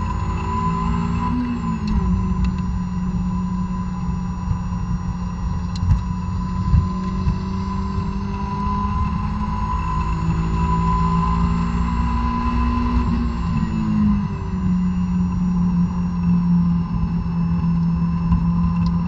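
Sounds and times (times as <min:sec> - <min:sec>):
car engine revving: 0:00.0 - 0:19.0
wind and tyre noise: 0:00.0 - 0:19.0.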